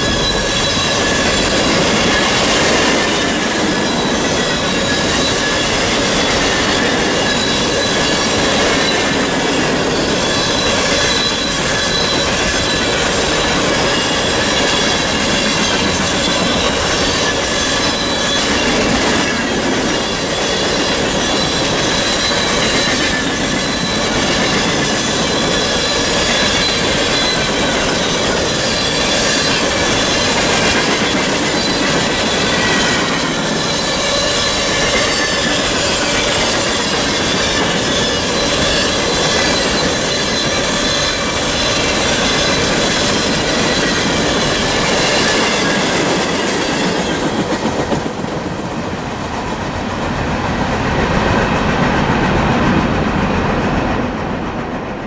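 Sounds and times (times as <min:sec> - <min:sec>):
high wheel squeal: 0:00.0 - 0:54.1
train wheels rumbling on rails: 0:00.0 - 0:55.0.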